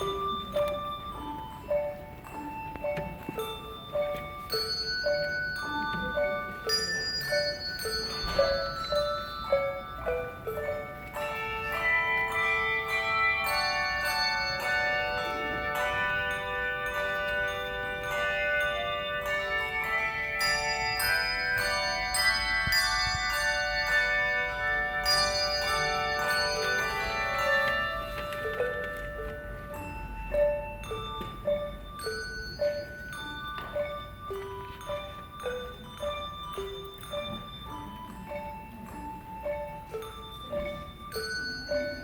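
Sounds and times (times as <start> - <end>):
handbells ringing: 0.0 - 42.0.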